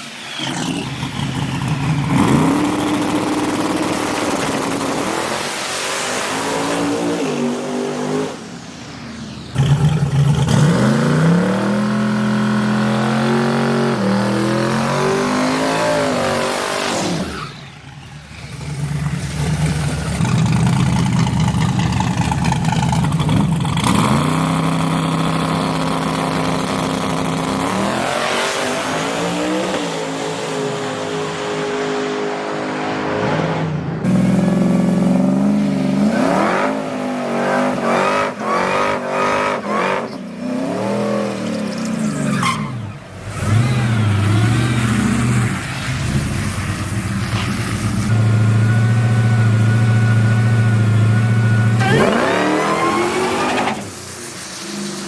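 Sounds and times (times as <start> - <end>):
drag racing engines revving: 0.0 - 55.0.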